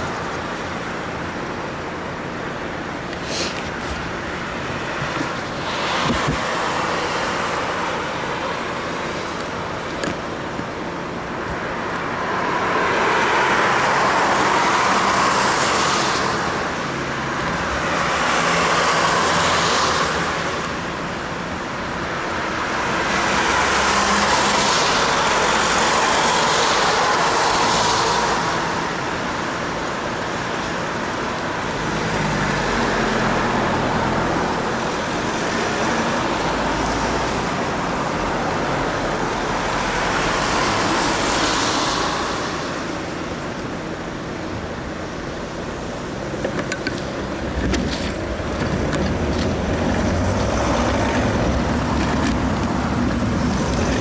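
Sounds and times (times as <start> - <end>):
cars passing: 0.0 - 54.0.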